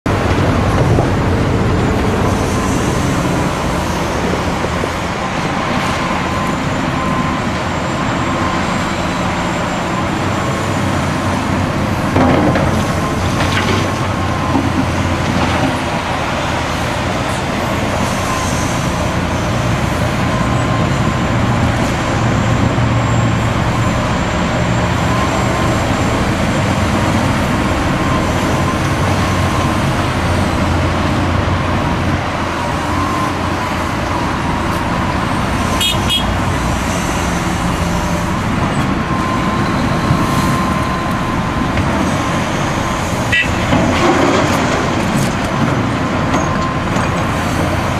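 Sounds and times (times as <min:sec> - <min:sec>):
motorway traffic: 0:00.0 - 0:47.9
excavator engine and hydraulics: 0:00.1 - 0:47.9.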